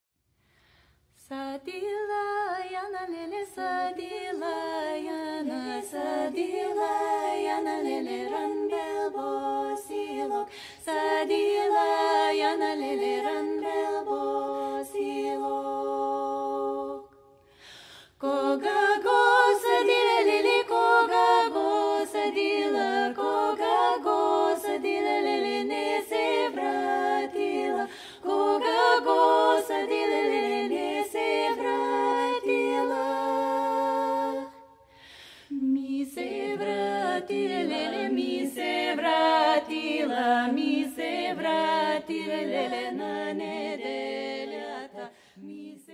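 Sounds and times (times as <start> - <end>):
a cappella group singing: 1.1 - 45.9.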